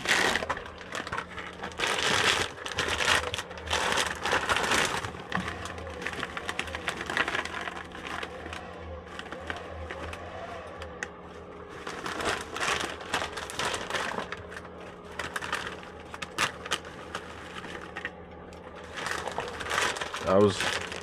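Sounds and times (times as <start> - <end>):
packaging crinkling: 0.0 - 21.0
steady low hum: 0.0 - 21.0.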